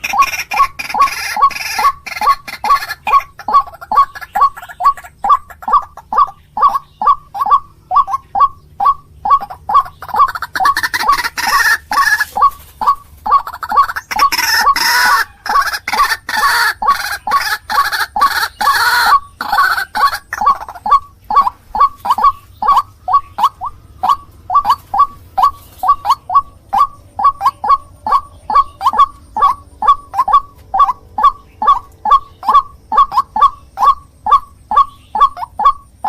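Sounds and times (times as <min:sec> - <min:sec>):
waterhen calling: 0:00.0 - 0:36.0.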